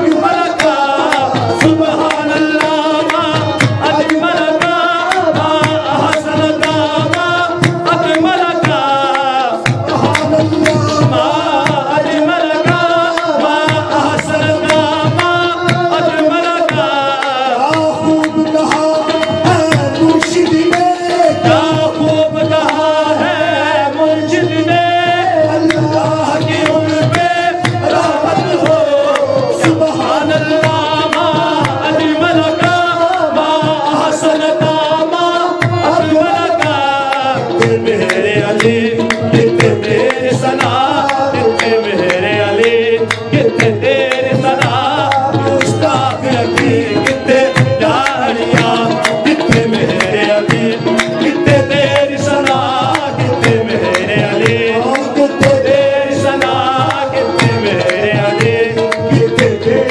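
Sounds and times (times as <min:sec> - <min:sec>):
harmonium held notes: 0:00.0 - 0:59.9
person singing: 0:00.0 - 0:59.9
tabla fast rhythm: 0:00.0 - 0:59.9.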